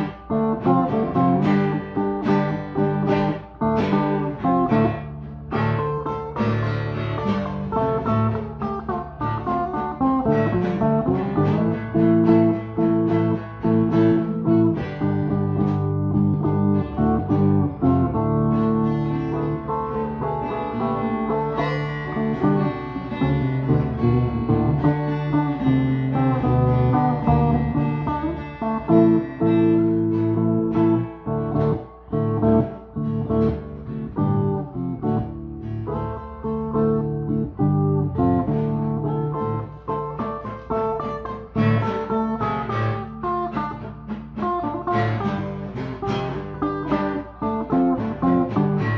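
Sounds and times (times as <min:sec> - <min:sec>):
electric guitar playing: 0:00.0 - 0:48.9.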